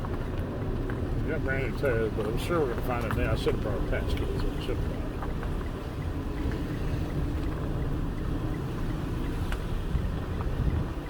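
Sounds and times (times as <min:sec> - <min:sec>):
vehicle engine and tyres rumbling: 0:00.0 - 0:11.0
wind: 0:00.0 - 0:11.0.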